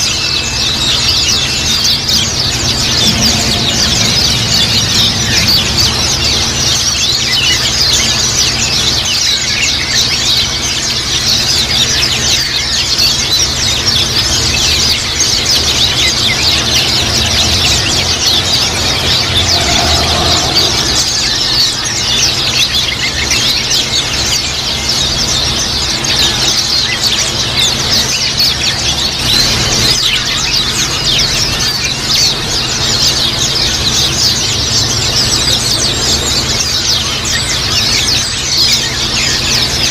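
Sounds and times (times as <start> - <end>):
birds twittering: 0.0 - 39.9
low steady hum: 0.0 - 39.9.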